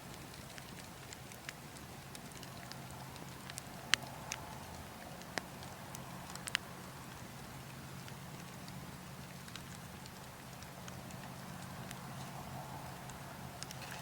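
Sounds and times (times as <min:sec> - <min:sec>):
burning logs crackling: 0:00.0 - 0:14.0.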